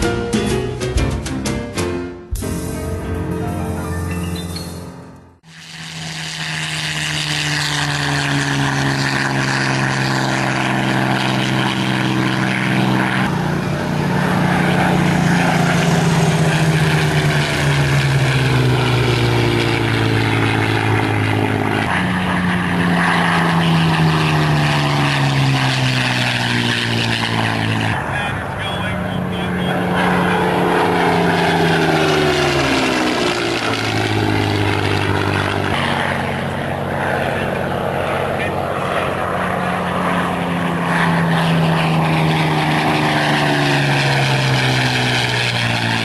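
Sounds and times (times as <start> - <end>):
propeller aircraft engine: 0.0 - 46.0.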